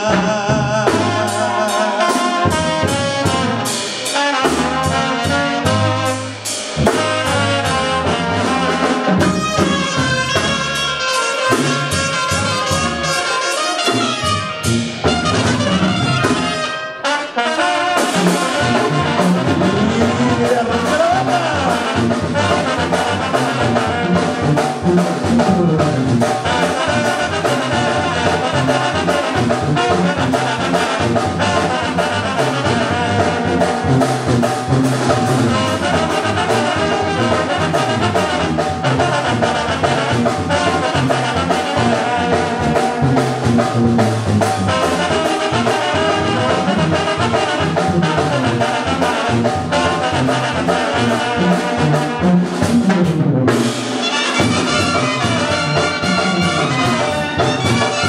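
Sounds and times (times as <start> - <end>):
bass line: 0.0 - 16.8, 17.9 - 58.0
brass horns: 0.0 - 58.0.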